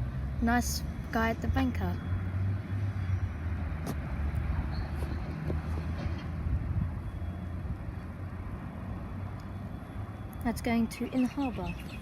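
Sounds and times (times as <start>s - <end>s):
locomotive engine drone: 0.0s - 12.0s.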